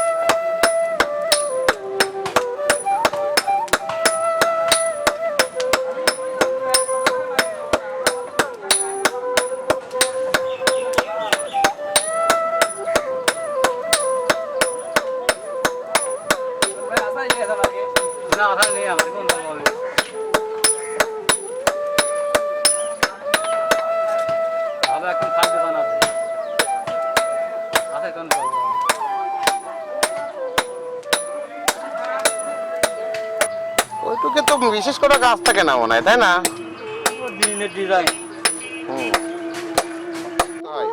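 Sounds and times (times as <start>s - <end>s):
melody: 0.0s - 40.8s
hammer striking iron on anvil: 0.6s - 12.8s, 13.6s - 23.8s, 25.4s - 33.9s, 34.5s - 35.7s, 36.4s - 40.6s.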